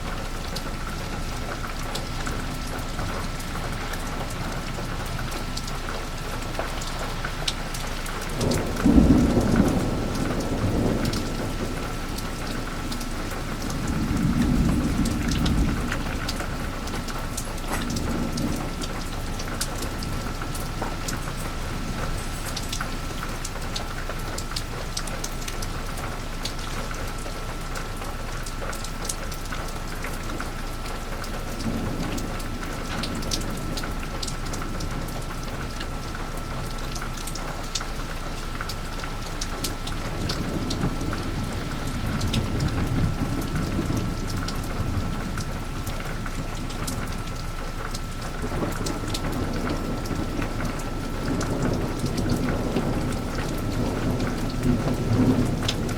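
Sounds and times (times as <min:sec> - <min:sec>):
heavy rain falling: 0:00.0 - 0:55.9
raindrops ticking: 0:00.0 - 0:55.9
thunder rumbling: 0:00.0 - 0:55.9.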